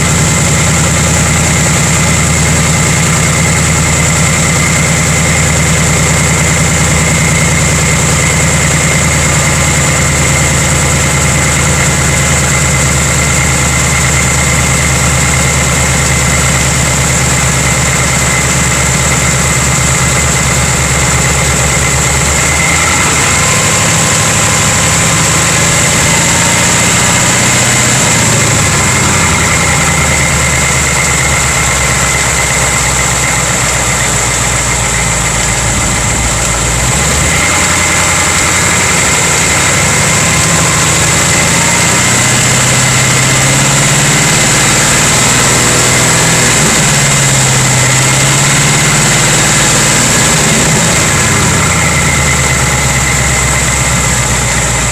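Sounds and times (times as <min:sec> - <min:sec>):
car engine idling: 0:00.0 - 0:54.9
engine clanking noise: 0:00.0 - 0:54.9.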